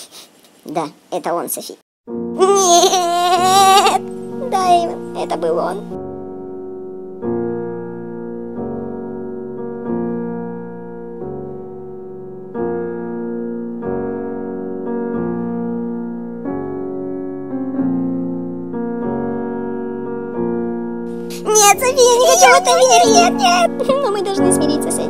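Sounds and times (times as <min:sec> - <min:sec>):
slow piano chords: 0:02.1 - 0:25.0.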